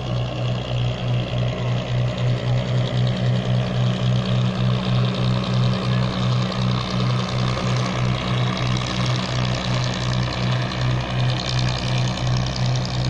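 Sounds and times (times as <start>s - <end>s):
boat engine throbbing: 0.0s - 13.0s.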